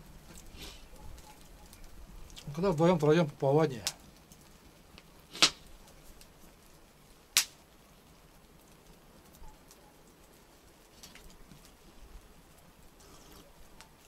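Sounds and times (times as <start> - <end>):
campfire wood cracking: 0.0 - 14.0
faint fire ticks: 0.0 - 14.0.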